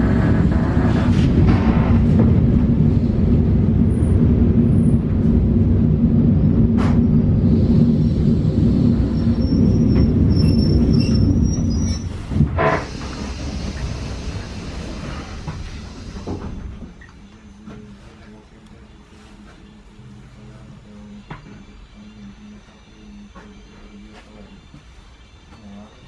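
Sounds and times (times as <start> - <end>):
train interior low rumble: 0.0 - 26.0.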